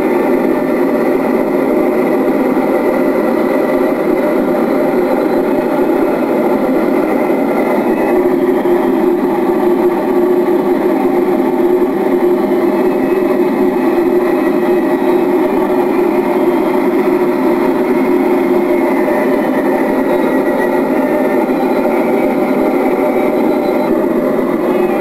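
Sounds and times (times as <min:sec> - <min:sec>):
aircraft engine drone: 0:00.0 - 0:25.0.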